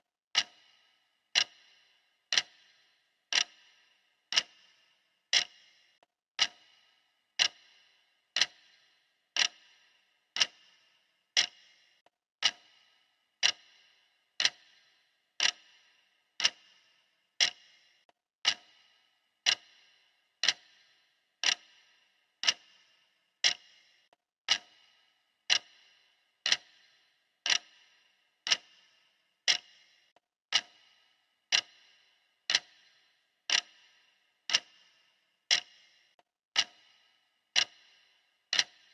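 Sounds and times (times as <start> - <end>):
clock ticking: 0.4 - 38.9.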